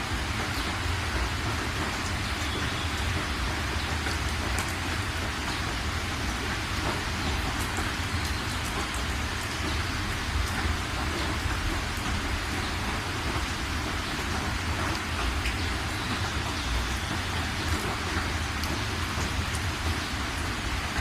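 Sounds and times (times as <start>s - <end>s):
rain hiss: 0.0s - 21.0s.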